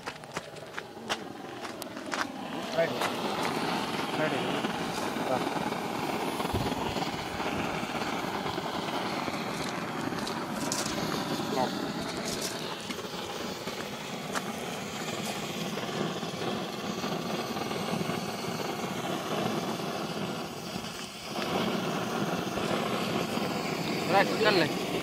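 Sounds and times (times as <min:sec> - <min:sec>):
blowtorch flame rushing: 0:00.0 - 0:25.0.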